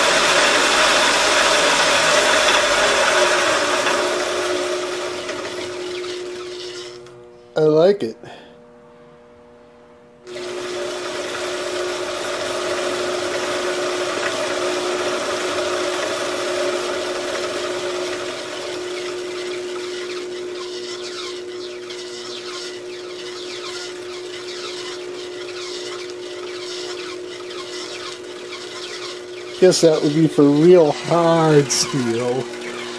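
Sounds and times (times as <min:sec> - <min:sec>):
band saw motor whine: 0:00.0 - 0:32.9.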